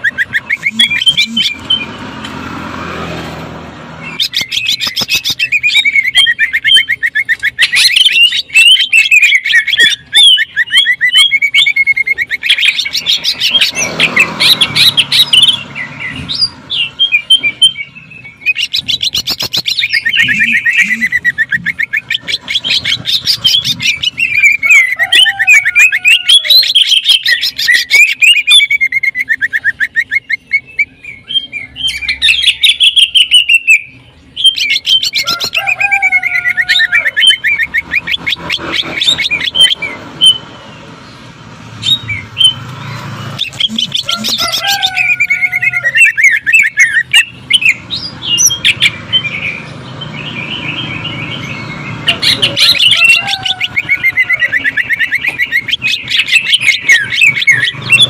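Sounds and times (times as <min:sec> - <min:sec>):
bird singing fast chattering notes: 0:00.0 - 0:02.4, 0:04.0 - 0:58.0.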